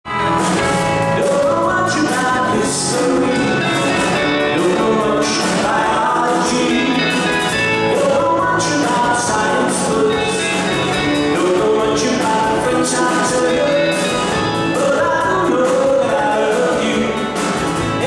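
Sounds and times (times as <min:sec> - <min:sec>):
keyboard: 0:00.0 - 0:18.0
drums with cymbals: 0:00.1 - 0:18.0
electric guitars: 0:00.1 - 0:18.0
man singing: 0:01.0 - 0:18.0.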